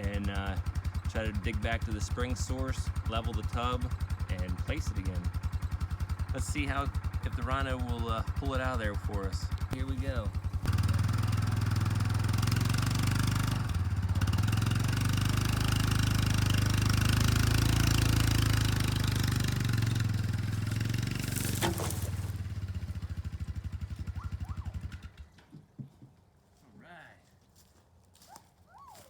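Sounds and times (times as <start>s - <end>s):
utility vehicle engine under load: 0.0s - 25.6s.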